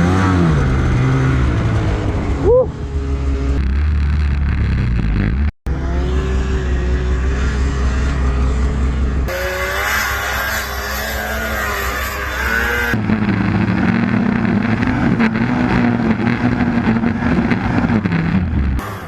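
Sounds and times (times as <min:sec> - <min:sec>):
snowmobile engines revving: 0:00.0 - 0:19.0.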